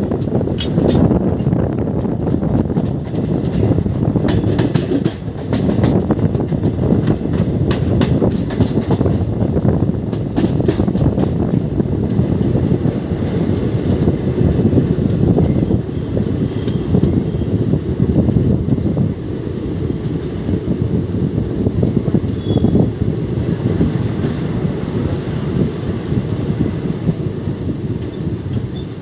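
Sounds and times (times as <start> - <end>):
train coaches rumbling: 0.0 - 29.0
wheels clacking over rail joints: 0.0 - 29.0.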